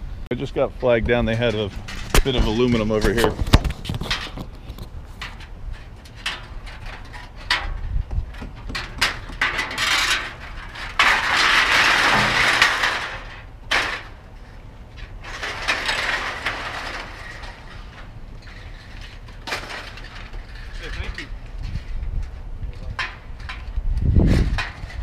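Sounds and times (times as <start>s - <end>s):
metal rattling and scraping: 0.4s - 25.0s
scrap metal clanking: 1.1s - 25.0s.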